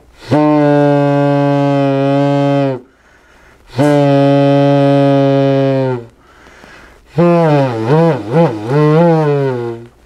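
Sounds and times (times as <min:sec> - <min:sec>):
kazoo buzzing: 0:00.0 - 0:10.0.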